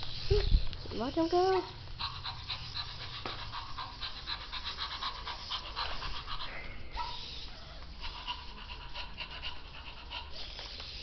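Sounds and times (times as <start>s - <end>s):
electronic dog panting: 1.4s - 11.0s.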